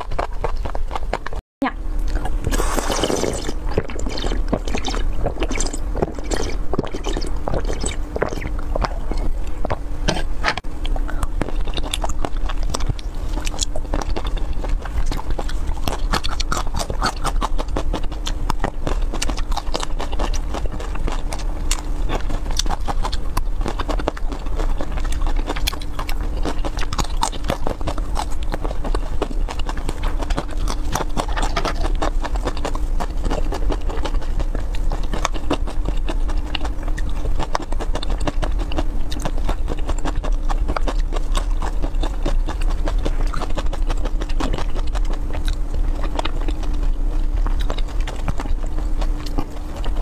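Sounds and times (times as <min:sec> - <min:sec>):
faint low hum: 0:00.0 - 0:50.0
crunching hard candy: 0:02.1 - 0:50.0.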